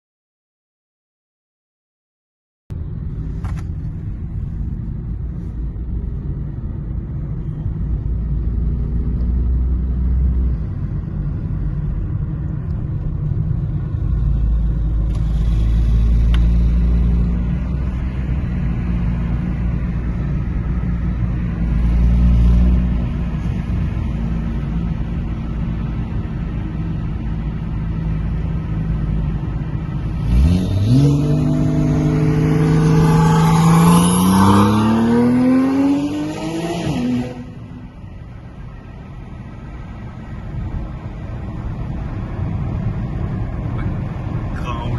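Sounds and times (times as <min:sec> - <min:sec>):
car engine revving: 0:05.9 - 0:44.9.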